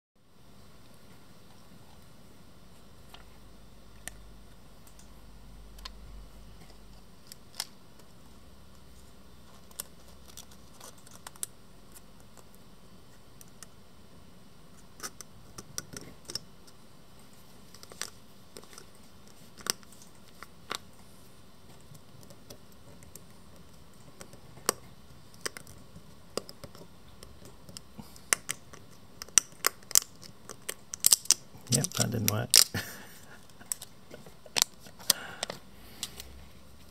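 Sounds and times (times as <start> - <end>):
steady faint hiss: 0.2 - 36.9.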